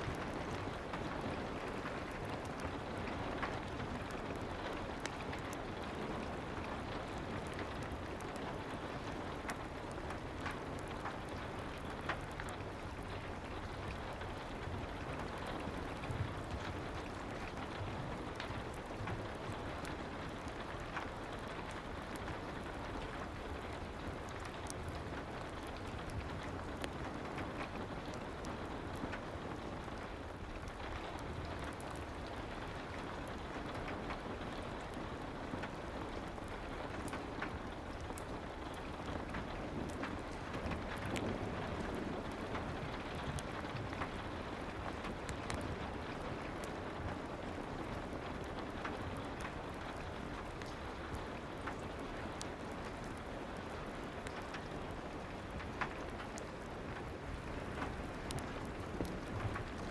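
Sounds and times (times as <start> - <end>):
soft rain: 0.0 - 59.9.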